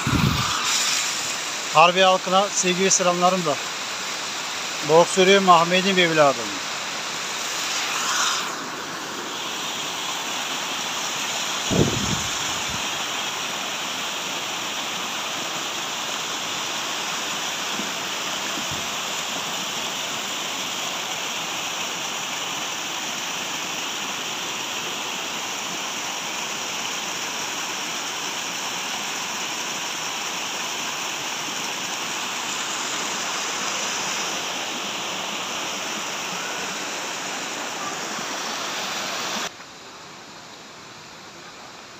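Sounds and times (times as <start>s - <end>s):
waterfall splashing: 0.0s - 39.5s.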